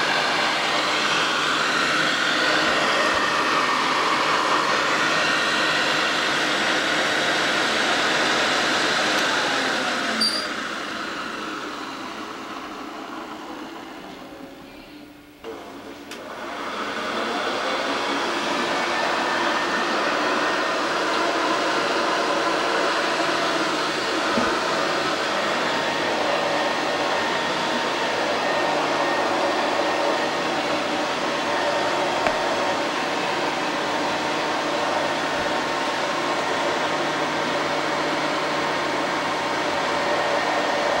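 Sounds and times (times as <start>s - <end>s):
vacuum cleaner running: 0.0s - 41.0s.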